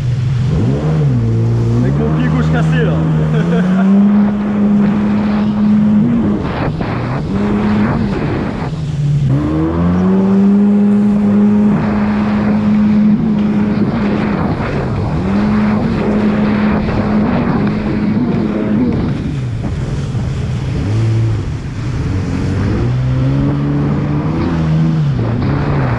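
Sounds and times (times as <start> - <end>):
jet ski engine droning: 0.0 - 25.9
rushing water and spray: 0.0 - 25.9.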